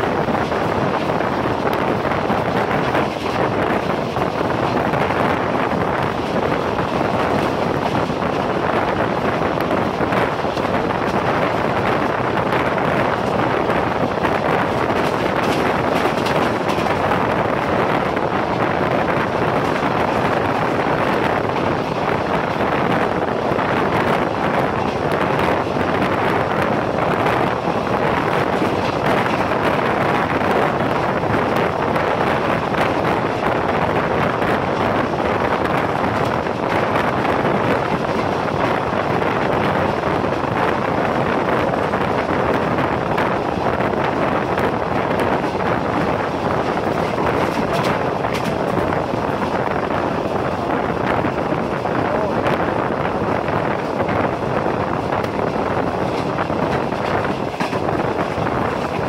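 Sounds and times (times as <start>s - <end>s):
passenger train running: 0.0s - 59.0s
wind buffeting microphone: 0.0s - 59.0s.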